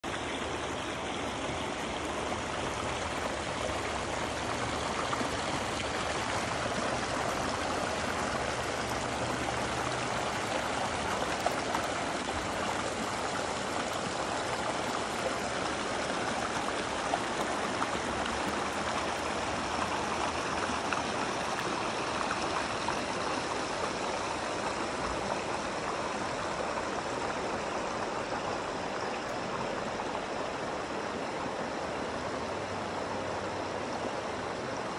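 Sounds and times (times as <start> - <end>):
river running over rocks: 0.1 - 34.9.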